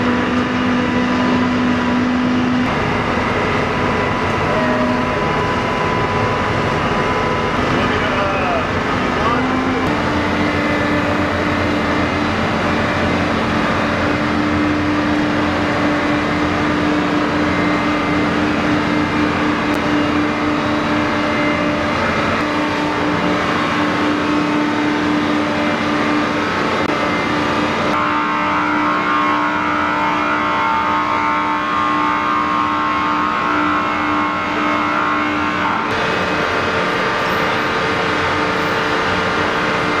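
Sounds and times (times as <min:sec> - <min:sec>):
tow tractor engine running: 0:00.0 - 0:28.2, 0:35.8 - 0:40.0
steady mechanical hum: 0:00.0 - 0:40.0.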